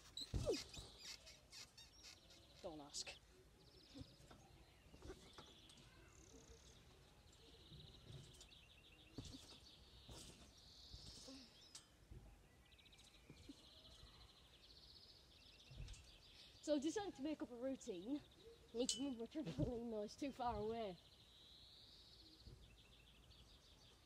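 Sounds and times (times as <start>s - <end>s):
songbirds trilling and chirping: 0.0s - 24.0s.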